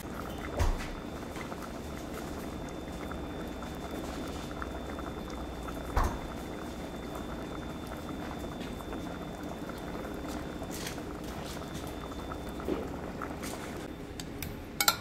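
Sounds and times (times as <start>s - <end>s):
water boiling and bubbling: 0.0s - 15.0s.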